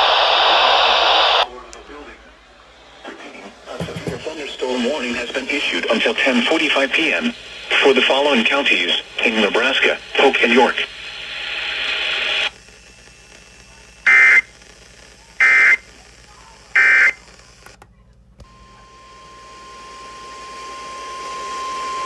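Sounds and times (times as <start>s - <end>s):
radio static hiss: 0.0s - 17.8s.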